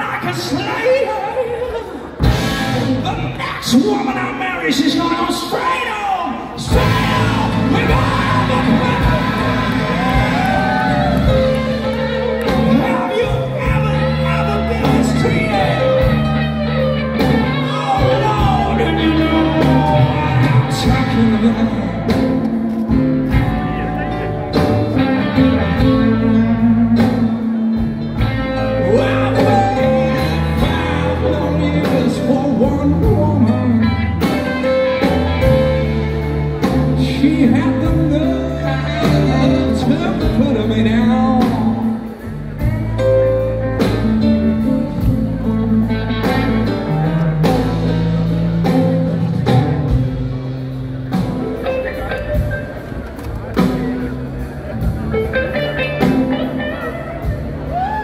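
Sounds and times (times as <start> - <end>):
live blues-rock band playing: 0.0 - 58.0.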